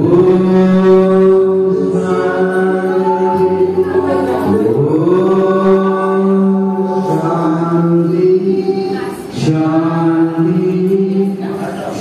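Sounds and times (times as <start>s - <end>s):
voices singing devotional song: 0.0s - 12.0s.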